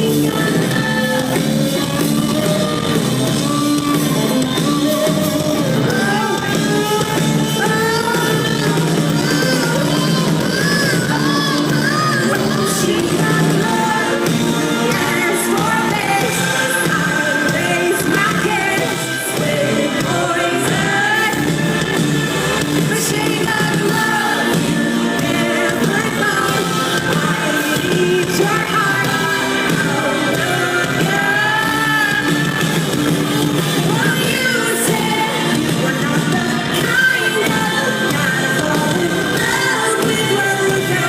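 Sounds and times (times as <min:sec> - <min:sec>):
live rock pop song: 0:00.0 - 0:41.0
woman singing lead vocal: 0:00.0 - 0:41.0.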